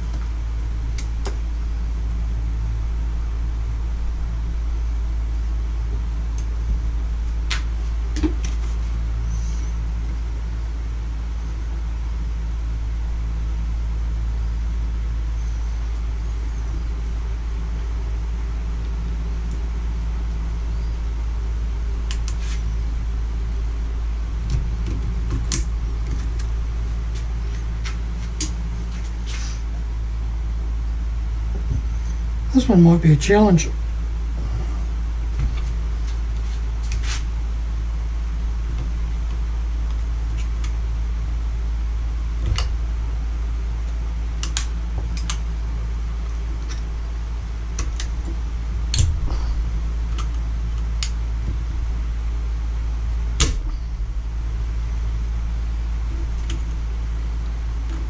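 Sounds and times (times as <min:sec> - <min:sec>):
low rumbling hum: 0:00.0 - 0:58.0.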